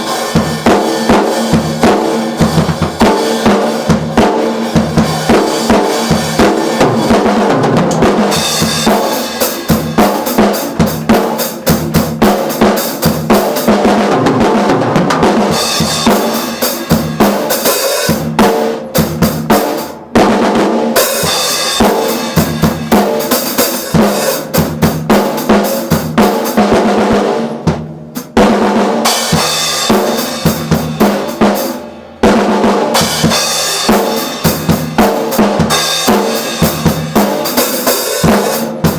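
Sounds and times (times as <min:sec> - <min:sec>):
bass drum and snare played hard: 0:00.0 - 0:38.9.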